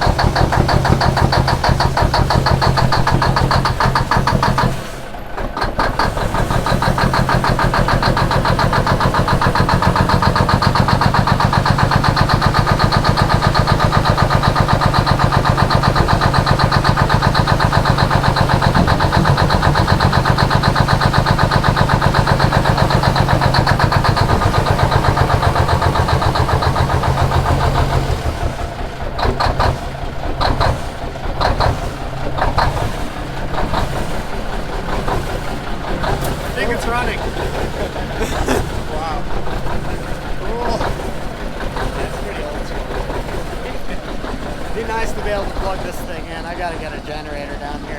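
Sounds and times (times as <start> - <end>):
diesel engine cranking: 0.0 - 47.9.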